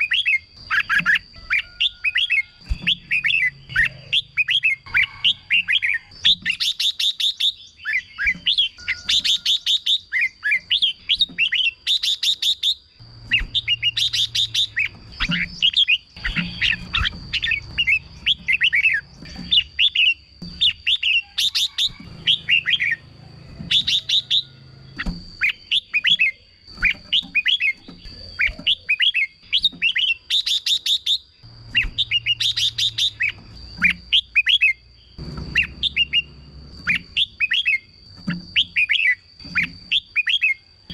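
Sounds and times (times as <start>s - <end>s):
bird singing warbled phrases: 0.0s - 40.9s
rapid ticking bird notes: 0.0s - 40.9s.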